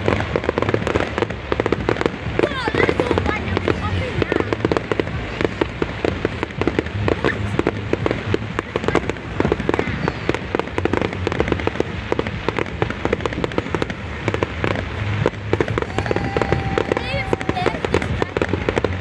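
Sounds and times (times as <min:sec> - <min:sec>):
fireworks popping and crackling: 0:00.0 - 0:19.0.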